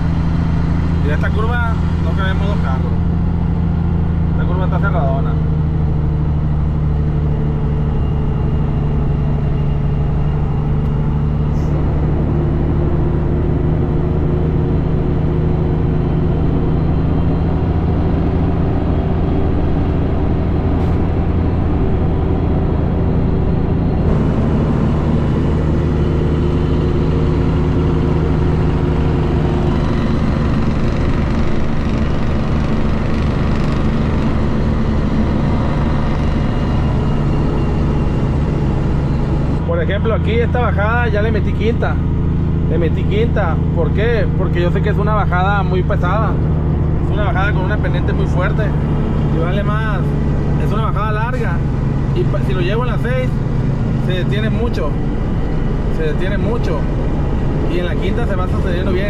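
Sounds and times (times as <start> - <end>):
truck diesel engine under load: 0.0 - 59.0.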